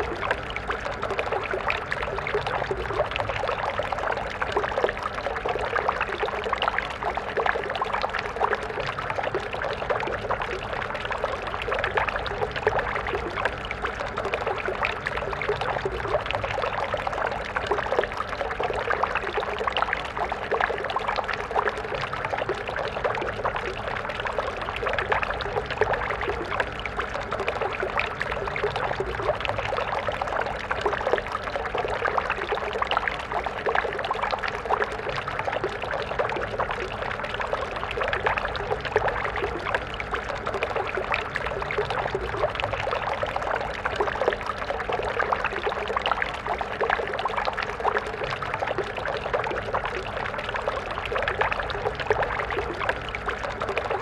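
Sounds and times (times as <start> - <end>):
stream of water babbling: 0.0 - 54.0.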